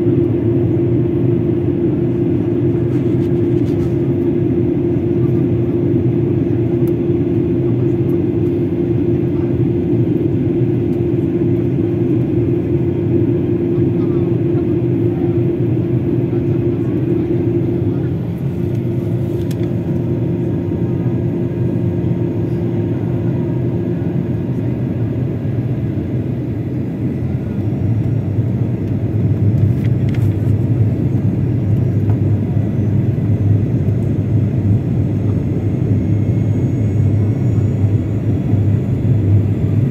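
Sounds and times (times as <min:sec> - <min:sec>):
airliner engine and airflow rumble: 0:00.0 - 0:39.9
steady hum: 0:00.0 - 0:39.9.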